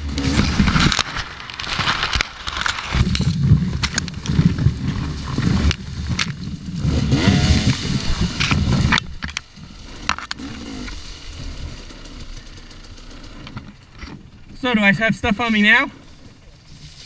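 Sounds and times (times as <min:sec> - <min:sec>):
dry reeds scraping against camera: 0:00.0 - 0:14.2, 0:15.3 - 0:17.0
low rumble: 0:00.0 - 0:17.0.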